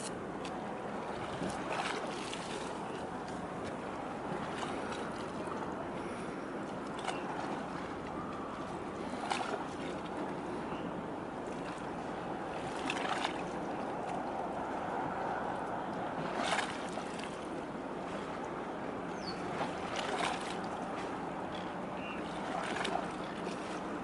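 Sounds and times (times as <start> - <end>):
water: 0.0 - 24.0
wind: 0.0 - 24.0.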